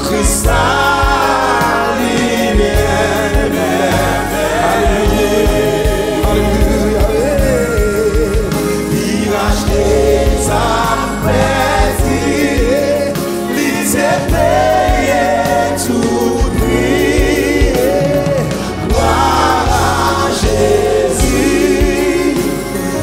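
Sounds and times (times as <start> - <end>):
backing vocalists: 0.0 - 23.0
electronic keyboard: 0.0 - 23.0
lead singer singing: 0.0 - 23.0
steady beat: 0.0 - 23.0.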